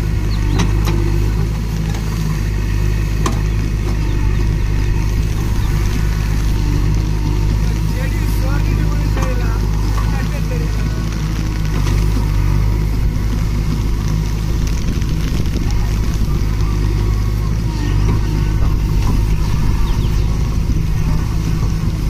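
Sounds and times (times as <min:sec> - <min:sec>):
diesel engine under hydraulic load: 0:00.0 - 0:22.0.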